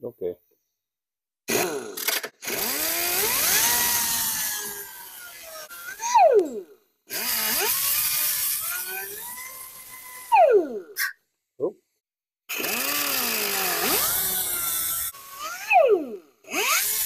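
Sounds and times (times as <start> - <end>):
air die grinder whining: 1.5 - 11.2, 12.5 - 17.0
cutoff wheel cutting steel: 1.5 - 11.2, 12.5 - 17.0.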